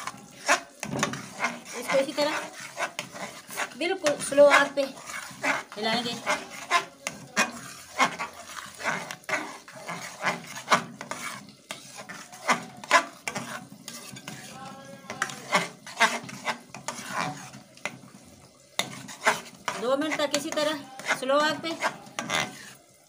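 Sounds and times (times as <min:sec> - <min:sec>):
spatula scraping metal pan: 0:00.0 - 0:22.9
thick mixture bubbling: 0:00.0 - 0:23.0.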